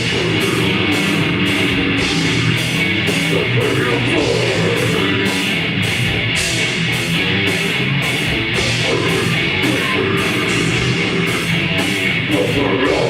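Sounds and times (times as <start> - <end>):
distorted electric guitars: 0.0 - 13.0
drums: 0.0 - 13.0.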